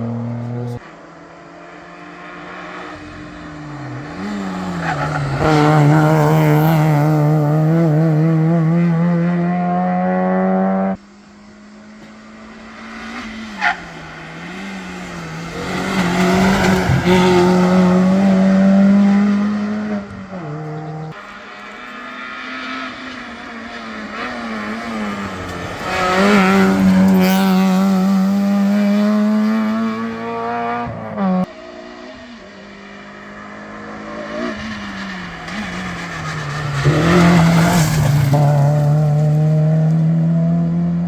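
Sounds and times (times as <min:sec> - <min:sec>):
rally car engine revving past: 0:00.0 - 0:32.2, 0:32.8 - 0:41.0.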